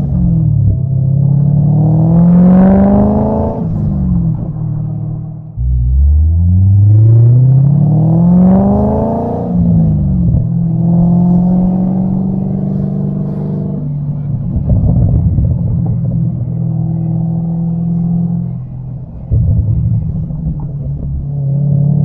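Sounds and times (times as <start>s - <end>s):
car engine revving: 0.0s - 22.0s
exhaust drone: 0.0s - 22.0s
rough engine rumble: 0.0s - 22.0s.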